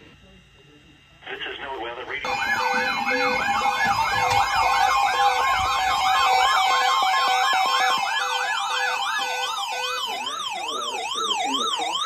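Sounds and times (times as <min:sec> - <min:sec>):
electronic siren wailing: 0:02.2 - 0:12.0
steady tone: 0:02.2 - 0:12.0.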